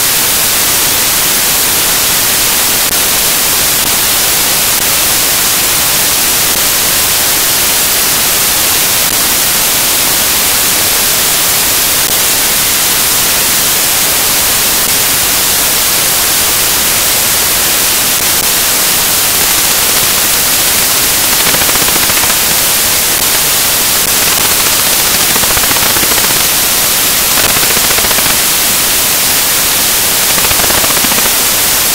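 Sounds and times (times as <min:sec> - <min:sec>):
static hiss: 0:00.0 - 0:31.9.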